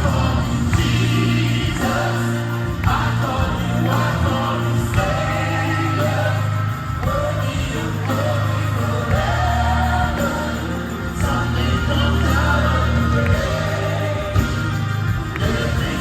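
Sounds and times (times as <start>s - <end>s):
music with singing voices: 0.0s - 16.0s.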